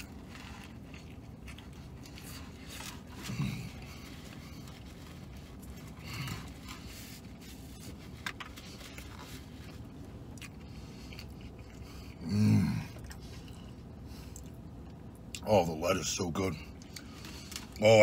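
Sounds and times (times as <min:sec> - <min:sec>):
man chewing: 0:00.0 - 0:15.4, 0:16.7 - 0:17.8.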